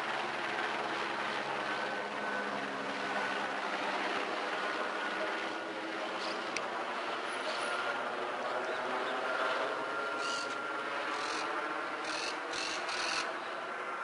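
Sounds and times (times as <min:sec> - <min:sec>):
helicopter flying overhead: 0:00.0 - 0:14.0.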